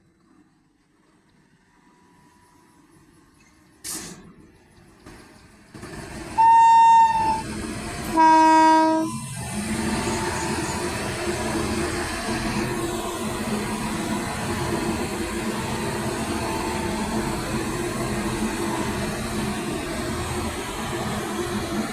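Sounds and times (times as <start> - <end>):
electric locomotive whirring hum: 0.0 - 21.9.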